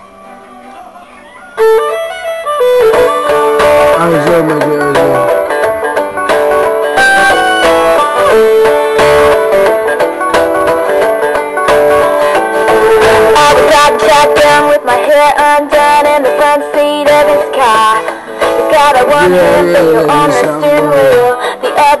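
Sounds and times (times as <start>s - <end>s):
plucked string music on small speaker: 0.0s - 22.0s.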